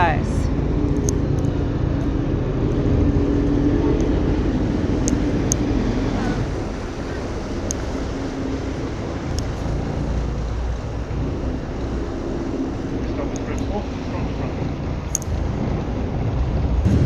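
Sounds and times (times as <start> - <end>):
ferry engine rumble: 0.0 - 17.0
water wash: 0.0 - 17.0
wind buffeting microphone: 0.0 - 17.0.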